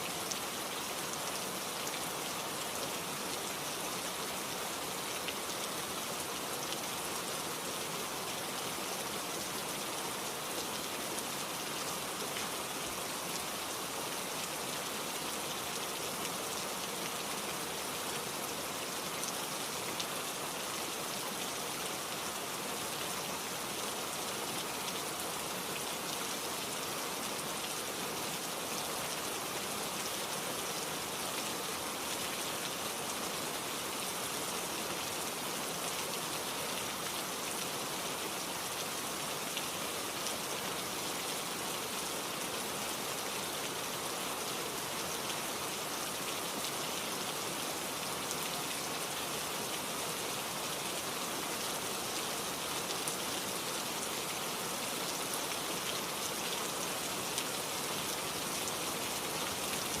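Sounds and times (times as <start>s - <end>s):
steady rainfall: 0.0s - 60.0s.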